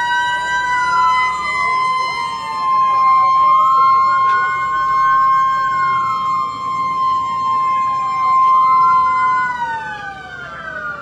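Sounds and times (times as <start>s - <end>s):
two-tone siren winding down: 0.0s - 11.0s.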